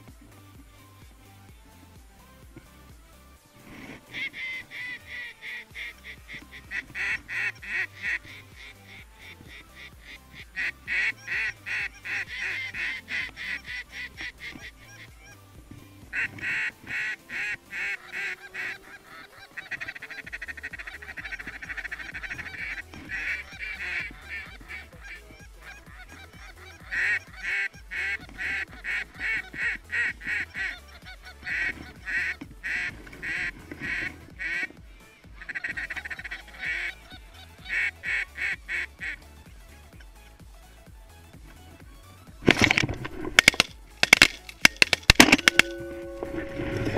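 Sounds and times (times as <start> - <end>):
geese honking: 3.6 - 46.9.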